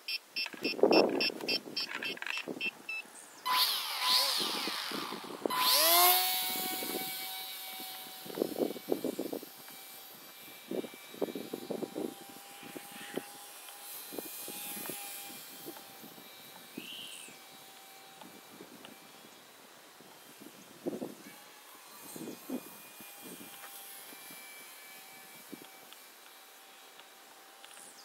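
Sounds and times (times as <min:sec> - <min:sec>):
model plane motor whining: 0:03.4 - 0:28.0.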